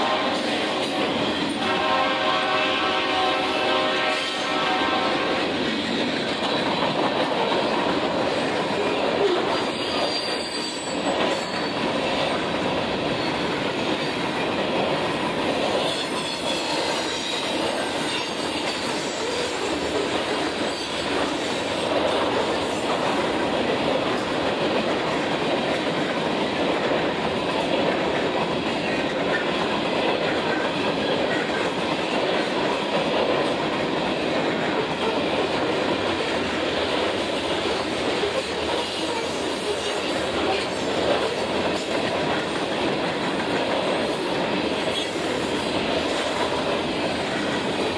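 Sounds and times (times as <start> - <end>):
freight train wheels rolling on rails: 0.0 - 47.9.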